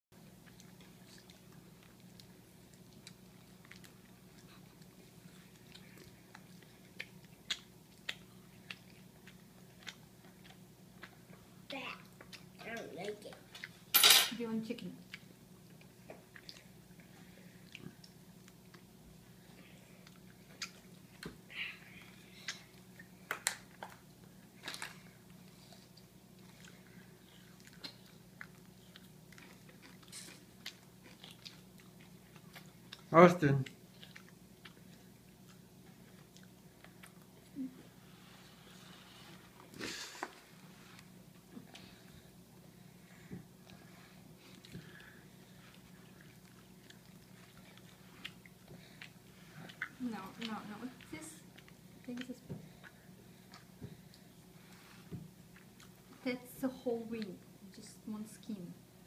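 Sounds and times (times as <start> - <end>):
child chewing and lip smacking: 0.2 - 13.9, 14.9 - 56.4
steady low hum: 0.2 - 59.0.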